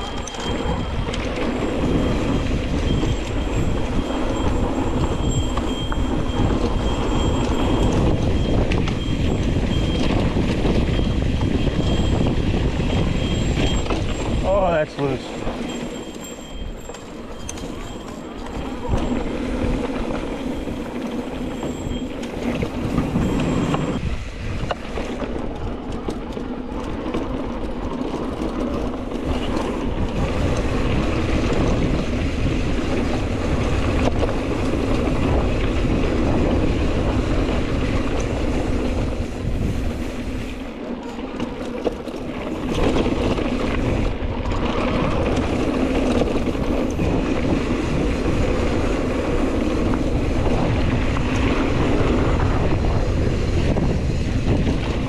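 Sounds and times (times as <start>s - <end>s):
bike tyres on dirt trail: 0.0s - 55.0s
wind buffeting microphone: 0.0s - 55.0s.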